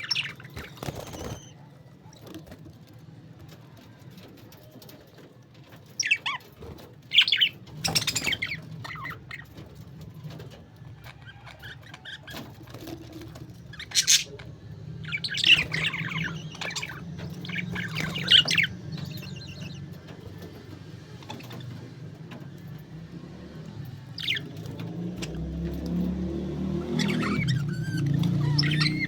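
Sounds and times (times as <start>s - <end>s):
parakeets chattering and chirping: 0.0s - 29.0s.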